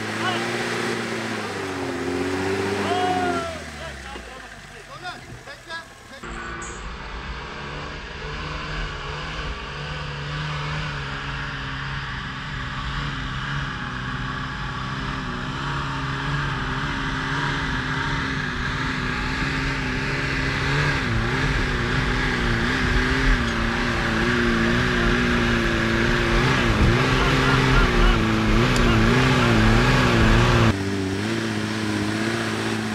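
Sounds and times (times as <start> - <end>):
car engine working hard: 0.0 - 32.9.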